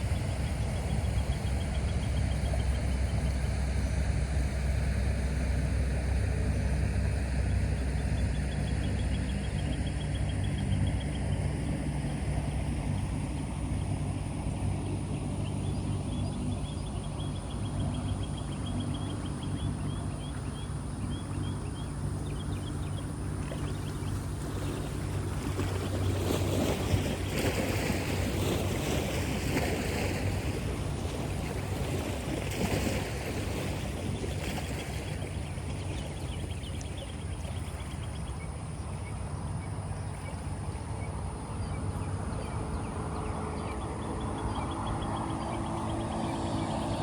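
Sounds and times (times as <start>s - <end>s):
engine drone: 0.0s - 47.0s.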